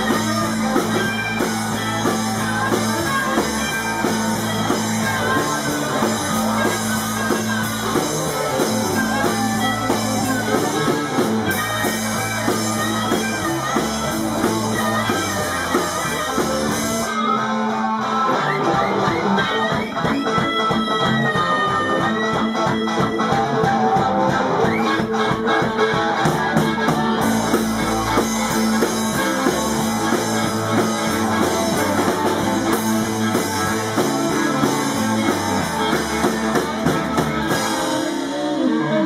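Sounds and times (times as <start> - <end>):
bass guitar: 0.0 - 39.0
drums: 0.0 - 39.0
electric guitar: 0.0 - 39.0.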